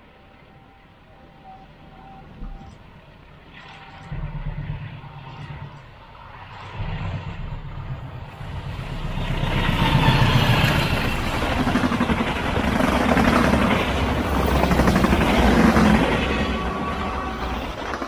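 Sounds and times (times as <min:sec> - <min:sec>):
diesel locomotive engine: 0:00.0 - 0:18.0
wheels rumbling on rail: 0:00.0 - 0:18.0.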